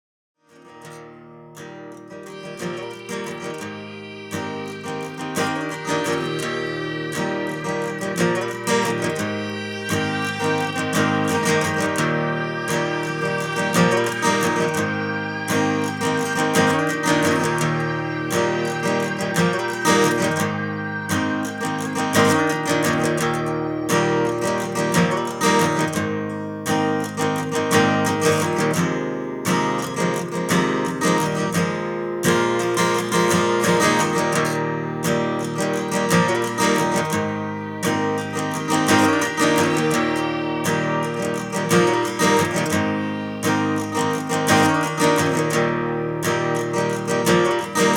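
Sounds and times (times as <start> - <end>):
strummed acoustic guitar music: 0.4 - 47.9.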